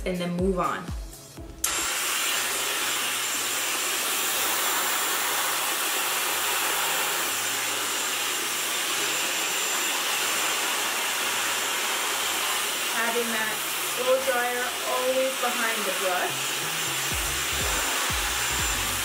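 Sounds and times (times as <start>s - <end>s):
hair dryer blowing: 0.9s - 19.0s.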